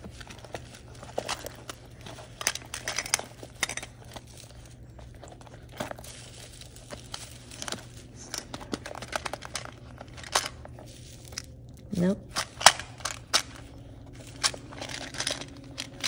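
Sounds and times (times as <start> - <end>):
straw bag crinkling and rustling: 0.0 - 16.0.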